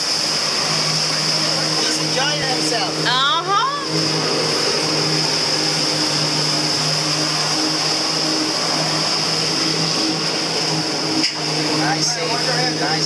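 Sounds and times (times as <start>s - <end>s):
high-pressure water jets spraying: 0.0s - 13.0s
pump engine droning: 0.0s - 13.0s.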